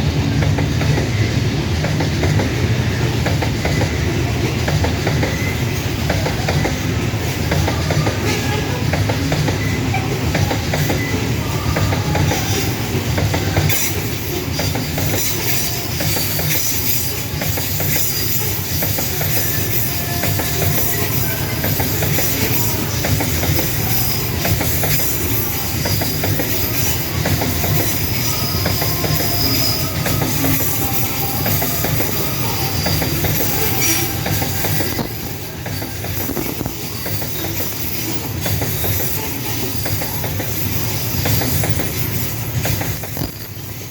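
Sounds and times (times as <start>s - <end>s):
train wheels clacking on rail joints: 0.0s - 43.9s
metallic wheel squeals: 7.8s - 43.9s.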